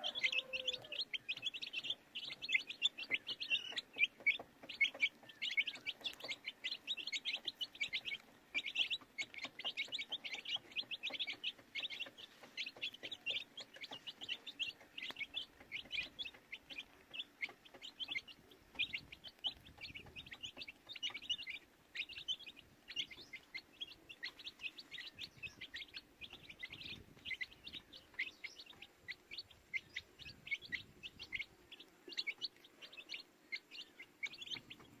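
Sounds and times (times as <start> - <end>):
baby chicks peeping: 0.0 - 35.0.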